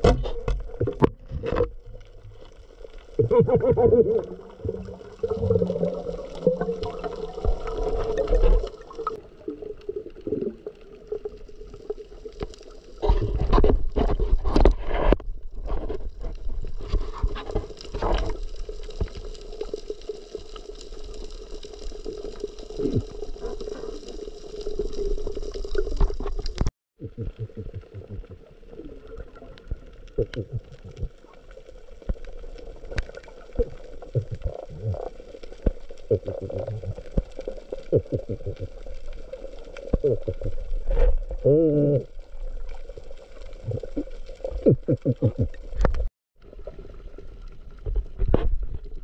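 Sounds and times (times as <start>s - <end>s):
water splashing: 0.0s - 14.6s, 15.7s - 49.0s
water gurgling and sloshing: 0.0s - 49.0s.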